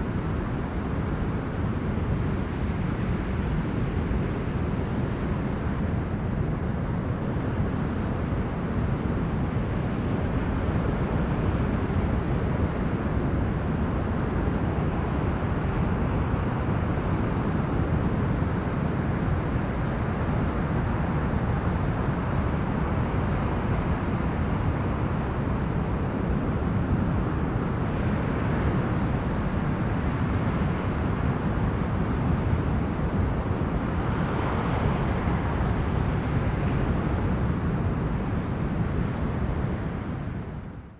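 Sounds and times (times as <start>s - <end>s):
wind blowing across microphone: 0.0s - 40.9s
waves breaking on a beach: 7.6s - 40.6s.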